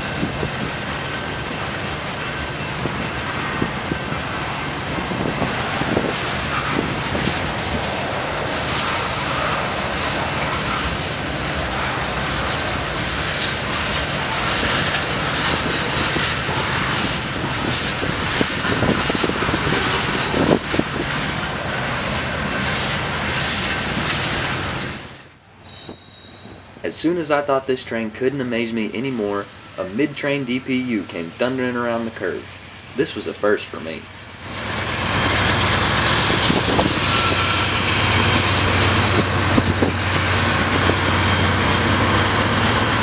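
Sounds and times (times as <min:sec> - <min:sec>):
steel wheels rumbling on rails: 0:00.0 - 0:43.0.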